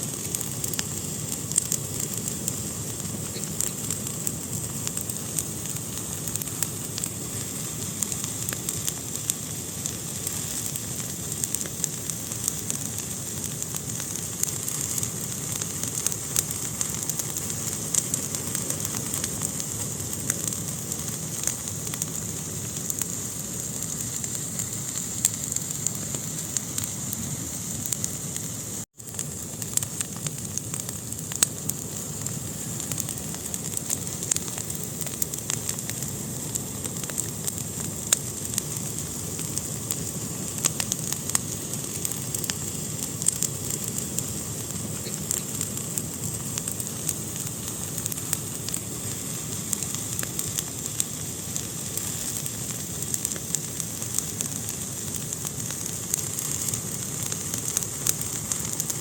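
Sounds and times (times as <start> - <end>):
fire crackling in fireplace: 0.0 - 59.0.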